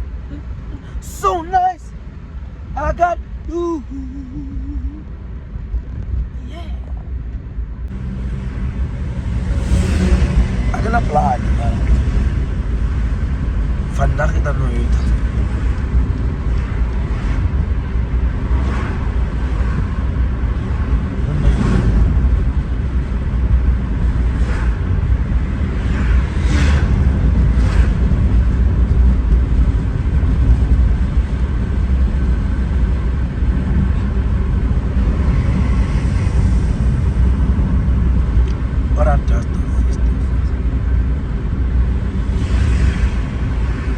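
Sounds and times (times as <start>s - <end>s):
car rumbling on the move: 0.0s - 43.9s.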